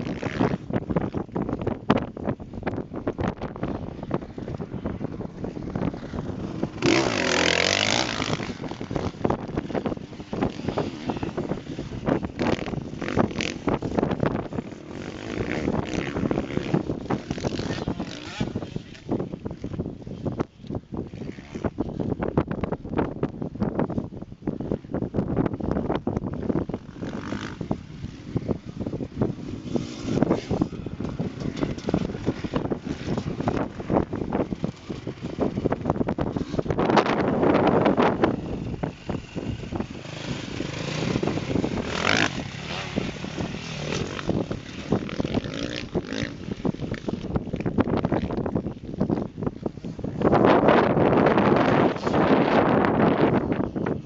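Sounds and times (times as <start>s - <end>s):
motocross bike engine revving: 0.0s - 1.7s, 2.6s - 19.8s, 26.4s - 53.7s
wind buffeting microphone: 0.0s - 54.0s.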